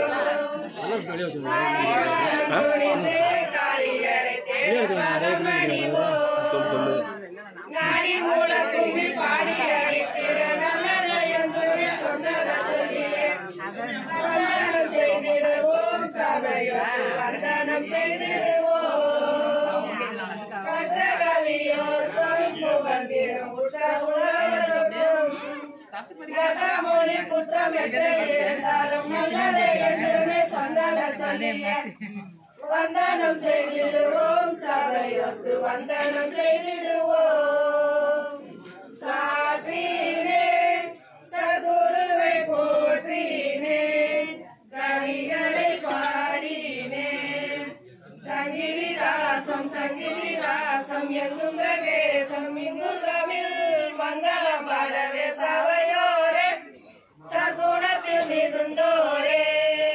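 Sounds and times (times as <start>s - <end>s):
group singing a folk song: 0.0s - 59.9s.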